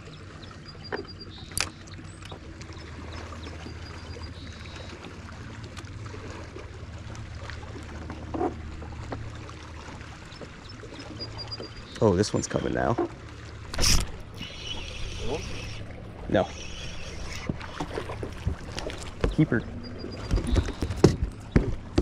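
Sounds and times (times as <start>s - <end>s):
electric trolling motor humming: 0.0s - 22.0s
water lapping against hull: 0.0s - 22.0s.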